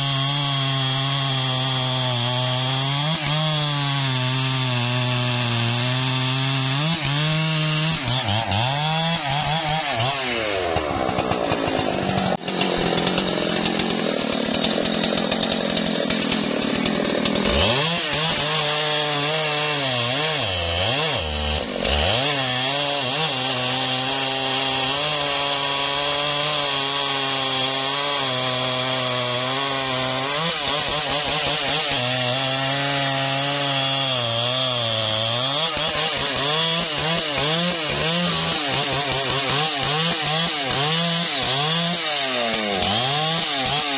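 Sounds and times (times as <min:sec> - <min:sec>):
chainsaw cutting through trunk: 0:00.0 - 0:43.9.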